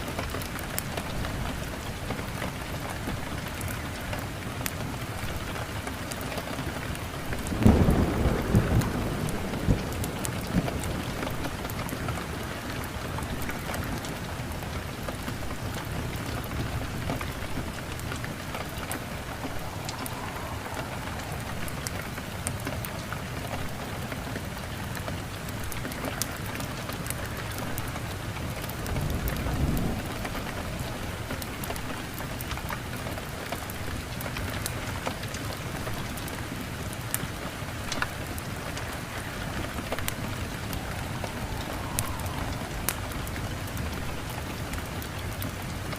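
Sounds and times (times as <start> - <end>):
steady rain: 0.0 - 45.9
low rumble of thunder: 4.9 - 24.5, 26.6 - 36.4, 37.7 - 45.9.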